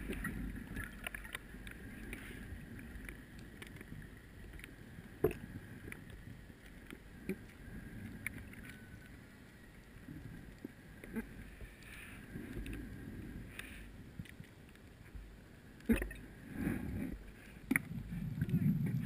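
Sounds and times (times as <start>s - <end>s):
faint clicks: 0.0s - 16.3s, 17.1s - 19.0s
underwater rumbling water noise: 0.0s - 19.0s.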